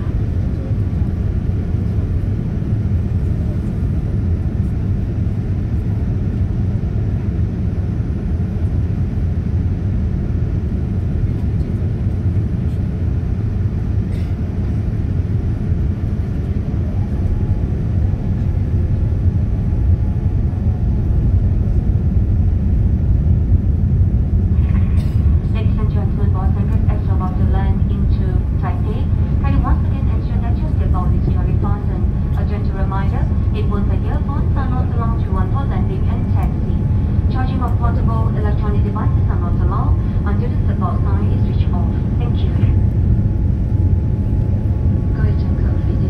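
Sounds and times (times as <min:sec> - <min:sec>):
airplane cabin engine rumble: 0:00.0 - 0:46.0.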